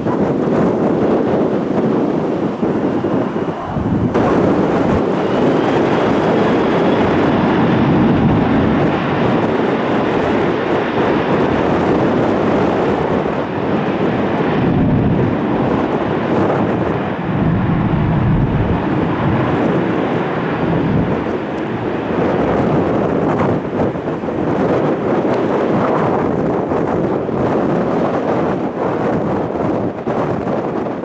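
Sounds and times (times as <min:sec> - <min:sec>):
jet engines running: 0:00.0 - 0:27.8
wind buffeting microphone: 0:00.0 - 0:31.0.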